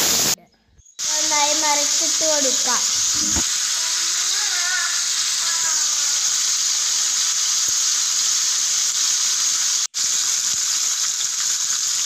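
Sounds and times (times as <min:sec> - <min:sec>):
fish sizzling in hot oil: 0:00.0 - 0:00.4, 0:01.0 - 0:12.0.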